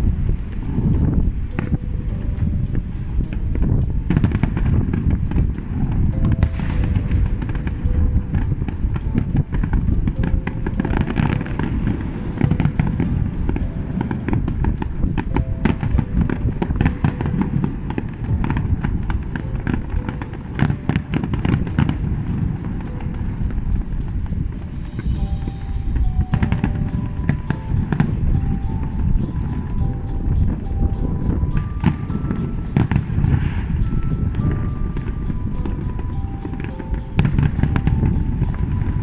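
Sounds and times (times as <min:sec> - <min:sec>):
fireworks crackling and banging: 0:00.0 - 0:39.0
music playing: 0:00.0 - 0:39.0
rumble of bursting shells: 0:00.0 - 0:39.0.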